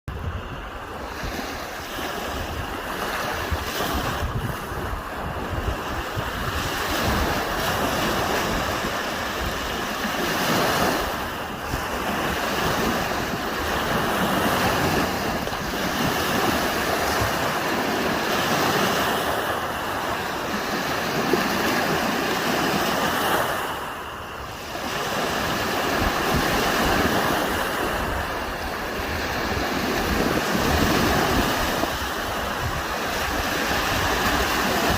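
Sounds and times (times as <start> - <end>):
waves washing onto sandy beach: 0.1 - 34.9
wind rumble on microphone: 0.1 - 34.9.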